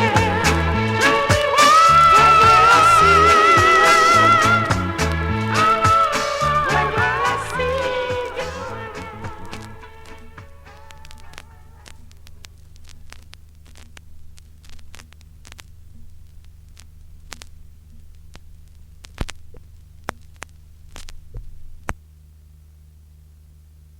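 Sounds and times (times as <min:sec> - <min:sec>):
vinyl record clicks and pops: 0:00.0 - 0:06.4, 0:07.0 - 0:23.9
mains hum: 0:00.0 - 0:23.9.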